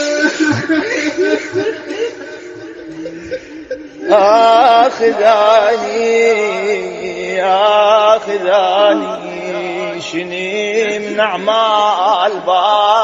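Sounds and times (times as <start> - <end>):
man chanting a devotional lament: 0.0 - 13.0.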